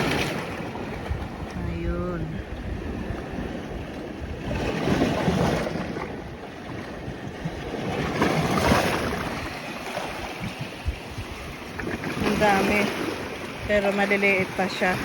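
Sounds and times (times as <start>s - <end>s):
waves washing in shallows: 0.0s - 15.0s
wind buffeting microphone: 0.0s - 15.0s.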